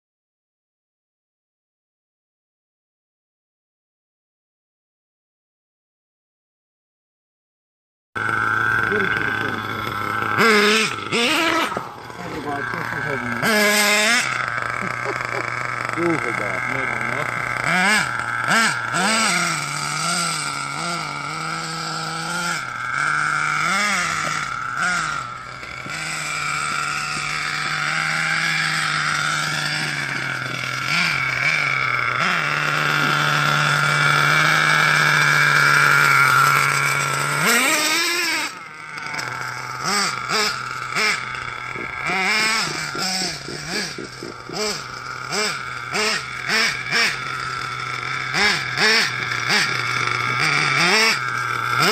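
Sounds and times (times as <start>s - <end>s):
small two-stroke engine revving: 8.2s - 51.9s.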